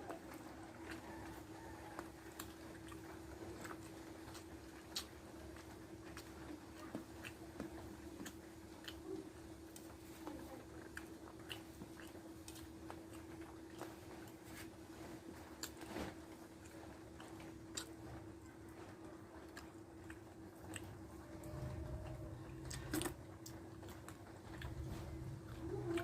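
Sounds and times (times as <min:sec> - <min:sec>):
faint steady hum: 0:00.0 - 0:26.0
person chewing food: 0:00.0 - 0:26.0.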